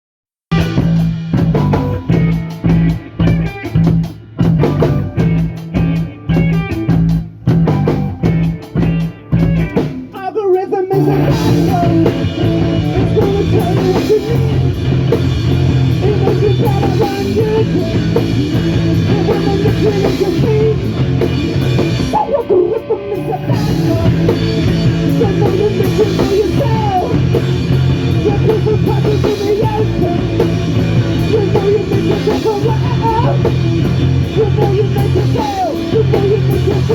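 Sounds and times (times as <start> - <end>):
punk rock band playing: 0.5 - 36.9.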